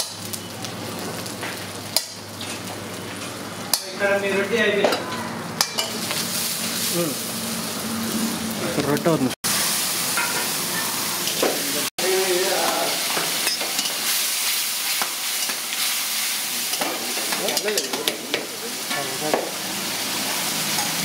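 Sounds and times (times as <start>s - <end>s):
curry sizzling in a pan: 0.0s - 21.0s.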